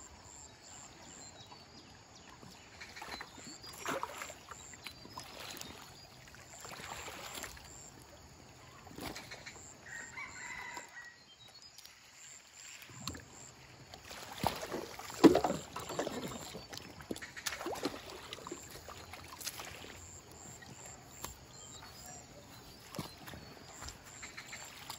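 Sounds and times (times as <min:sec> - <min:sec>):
pole splashing in river water: 0:02.7 - 0:10.9, 0:11.7 - 0:24.9.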